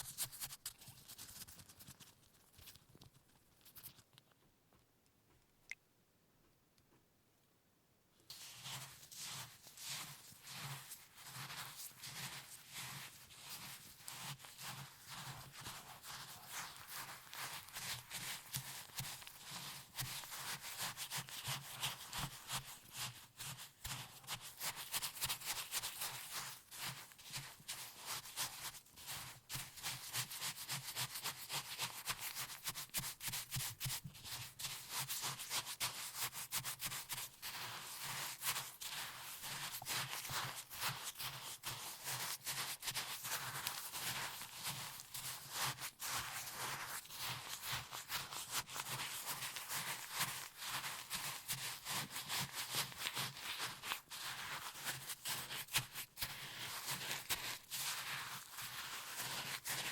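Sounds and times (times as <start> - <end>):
hands rubbing and scraping food: 0.0 - 4.2, 8.3 - 59.9.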